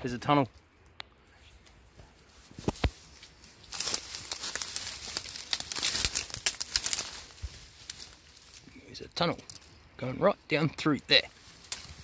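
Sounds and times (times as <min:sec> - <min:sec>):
reeds and leaf litter crackling: 0:01.3 - 0:12.0.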